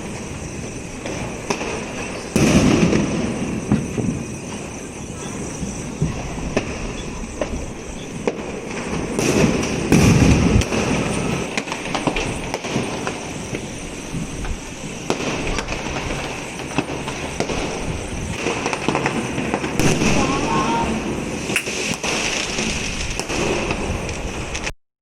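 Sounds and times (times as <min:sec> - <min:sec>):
firecrackers crackling and popping: 0:00.0 - 0:24.7
loud deep firework boom: 0:00.0 - 0:24.7.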